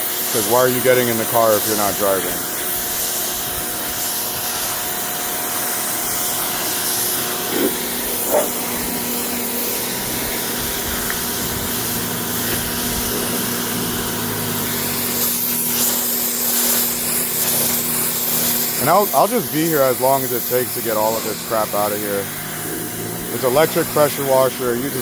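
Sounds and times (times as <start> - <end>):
pressure washer motor humming: 0.0 - 25.0
water jet spraying: 0.0 - 25.0.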